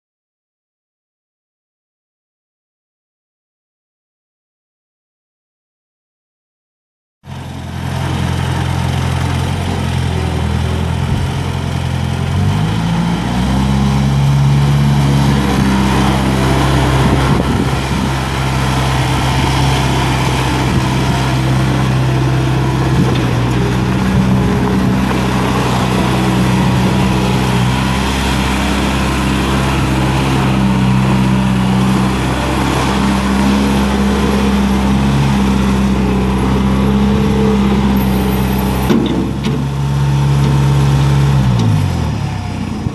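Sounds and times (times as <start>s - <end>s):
diesel engine running: 7.3s - 42.9s.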